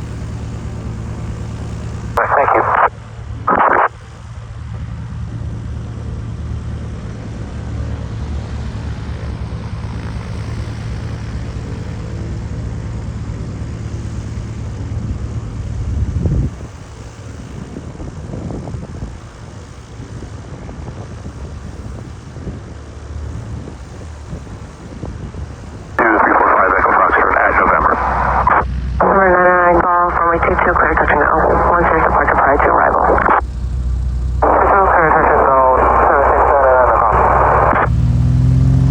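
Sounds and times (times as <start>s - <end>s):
propeller airplane engine drone: 0.0s - 38.9s
wind: 0.0s - 38.9s.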